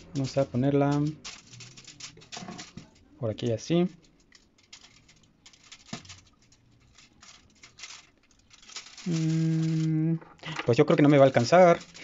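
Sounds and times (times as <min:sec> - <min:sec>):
pastry rustling and tapping: 0:00.0 - 0:12.0.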